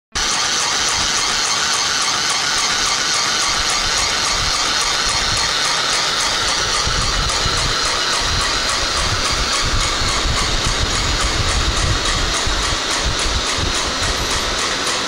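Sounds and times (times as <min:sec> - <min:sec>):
sewing machine running: 0:00.1 - 0:15.0.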